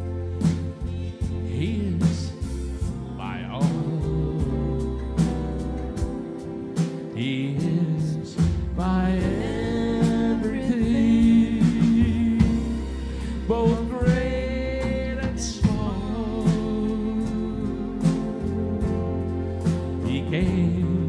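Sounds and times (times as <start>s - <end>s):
acoustic guitar: 0.0s - 21.0s
drum kit: 0.0s - 21.0s
keyboard: 0.0s - 21.0s
man singing: 0.8s - 21.0s.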